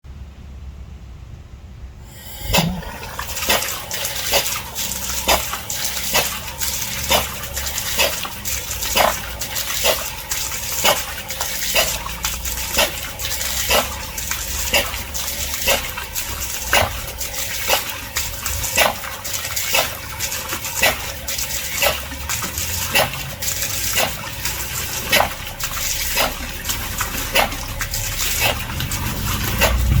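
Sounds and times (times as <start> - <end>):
diaphragm pump air-exhaust strokes: 2.0 - 30.0.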